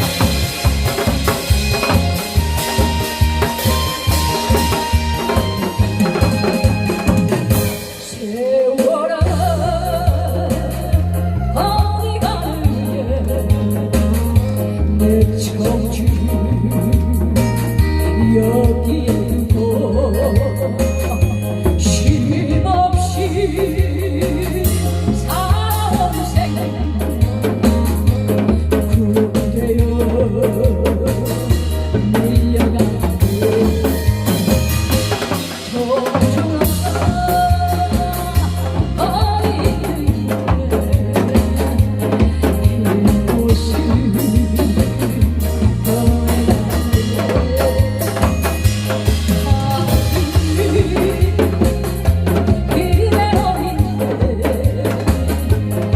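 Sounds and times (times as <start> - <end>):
steady drum beat: 0.0 - 55.9.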